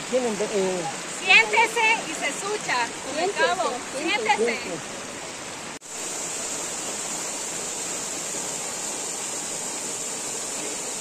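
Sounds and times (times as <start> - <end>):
waterfall rushing onto boulders: 0.0 - 11.0.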